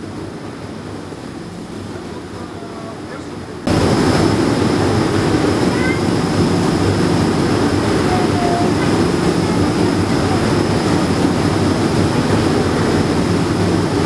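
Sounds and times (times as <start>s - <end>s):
ferry engine drone: 0.0s - 14.0s
wake water rushing: 0.0s - 14.0s.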